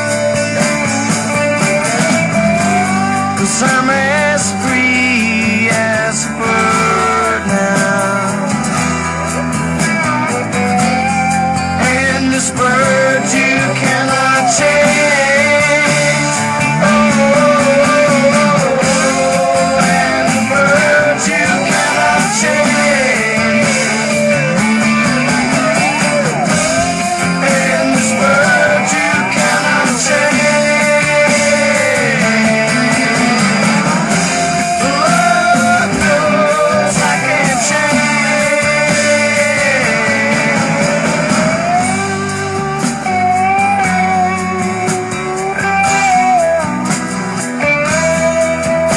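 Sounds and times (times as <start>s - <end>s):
person singing: 0.0s - 48.9s
rock music with guitar: 0.0s - 48.9s.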